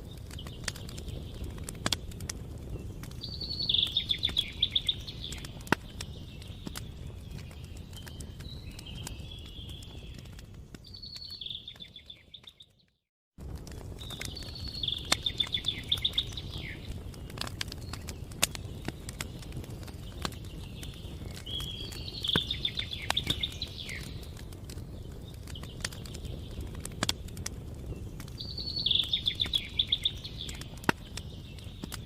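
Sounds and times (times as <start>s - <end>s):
campfire crackling and popping: 0.0s - 32.0s
bird singing a trilled song: 2.6s - 13.0s, 14.0s - 26.9s, 27.8s - 32.0s.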